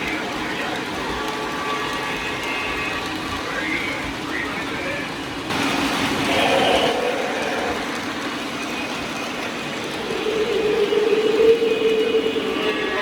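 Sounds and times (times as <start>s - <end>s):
model train engine sound: 0.0s - 13.0s
model train rolling on track: 0.0s - 13.0s.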